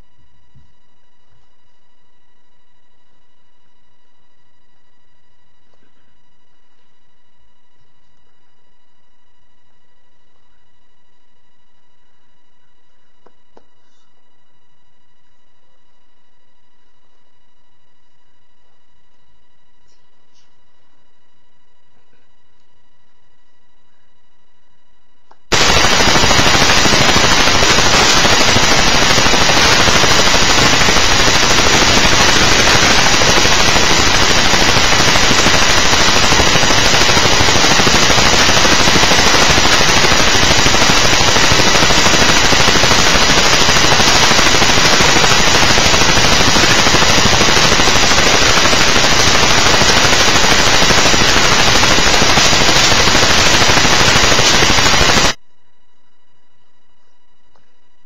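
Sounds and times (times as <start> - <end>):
crackling static: 0.0 - 58.0.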